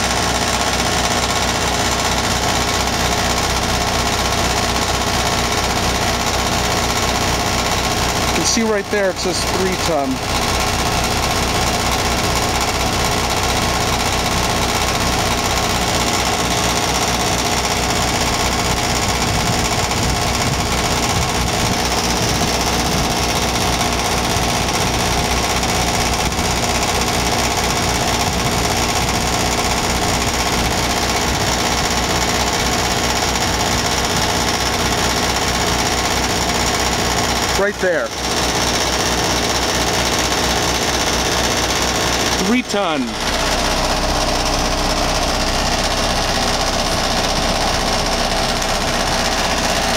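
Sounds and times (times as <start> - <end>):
buzzing rattle of loose part: 0.0 - 49.9
heat pump humming: 0.0 - 49.9.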